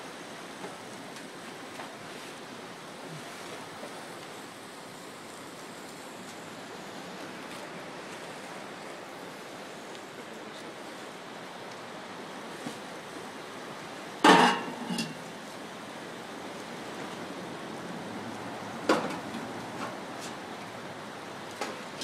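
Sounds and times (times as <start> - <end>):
steady hiss: 0.0 - 17.8.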